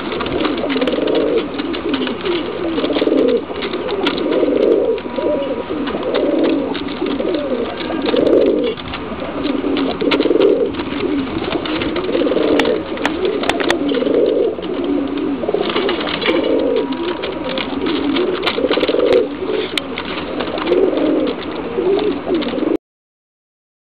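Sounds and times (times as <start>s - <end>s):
pigeons cooing: 0.0s - 22.8s.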